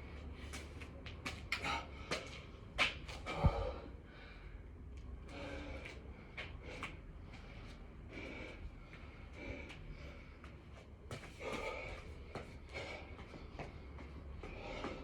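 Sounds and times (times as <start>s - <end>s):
man breathing heavily: 1.5s - 15.0s.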